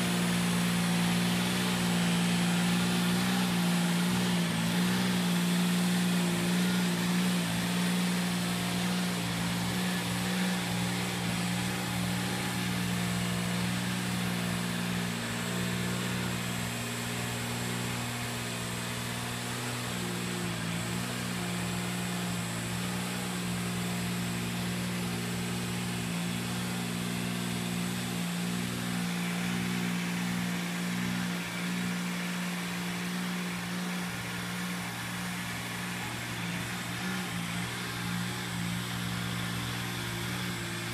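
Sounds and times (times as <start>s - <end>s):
tractor engine humming: 0.0s - 40.9s.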